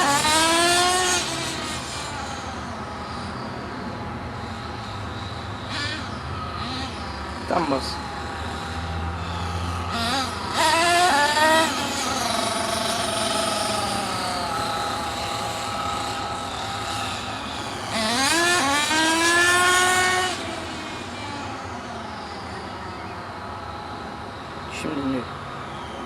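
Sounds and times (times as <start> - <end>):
small nitro engine revving: 0.0 - 25.2.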